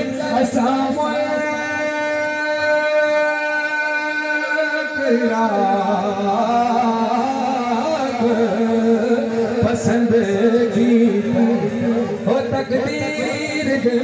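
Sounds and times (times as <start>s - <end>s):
man singing mourning elegy: 0.0s - 14.0s.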